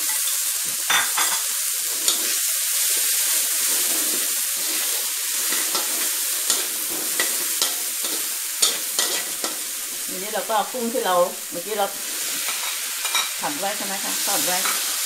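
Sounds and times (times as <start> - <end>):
food sizzling in hot oil: 0.0 - 15.0
metal spatula scraping wok: 0.1 - 2.5, 3.6 - 10.0, 11.6 - 15.0.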